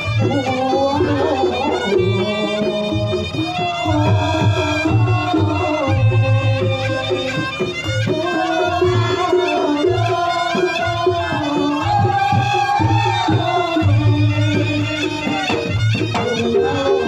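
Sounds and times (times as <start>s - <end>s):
hand drums: 0.0s - 17.0s
repeated low beats: 0.0s - 17.0s
shawm playing sliding melody: 0.0s - 17.0s.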